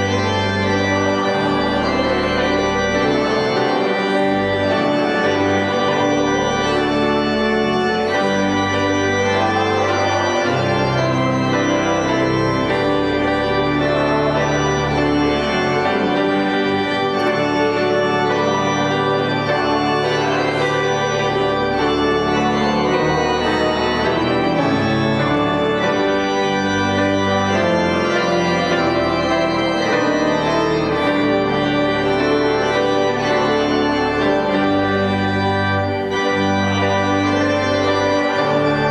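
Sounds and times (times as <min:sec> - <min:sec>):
church organ playing chords: 0:00.0 - 0:38.9.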